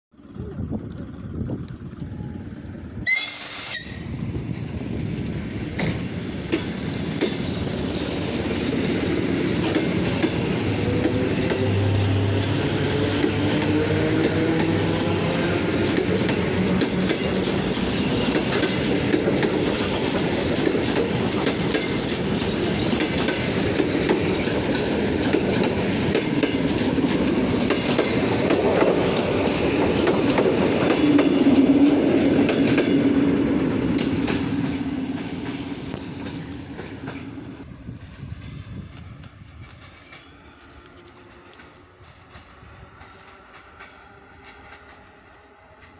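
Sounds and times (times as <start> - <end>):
train passing: 0.2 - 45.9.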